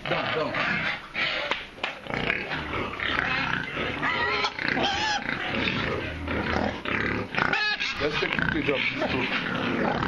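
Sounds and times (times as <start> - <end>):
pigs vocalising: 0.0 - 10.0
high-pitched pig call: 0.4 - 10.0.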